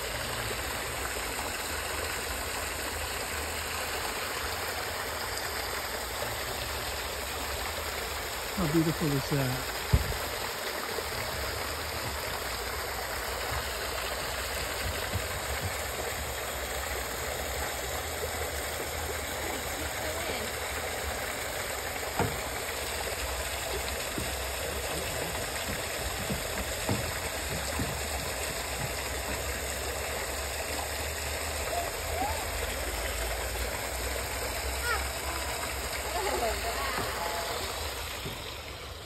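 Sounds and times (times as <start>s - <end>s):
waterfall splashing into pond: 0.0s - 39.0s.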